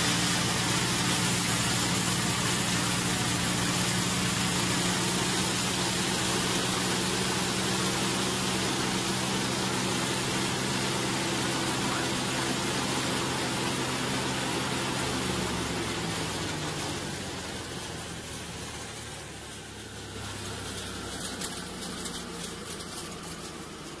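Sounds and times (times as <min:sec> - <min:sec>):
grain grinding machine: 0:00.0 - 0:24.0.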